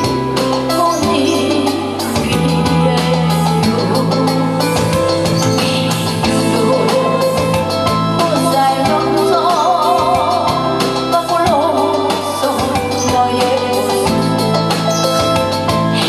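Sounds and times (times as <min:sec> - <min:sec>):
amplified band accompaniment: 0:00.0 - 0:16.0
woman singing into microphone: 0:00.0 - 0:16.0.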